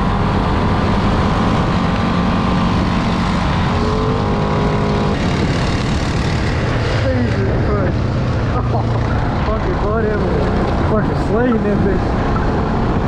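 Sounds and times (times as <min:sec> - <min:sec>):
atv engine running hard: 0:00.0 - 0:13.0.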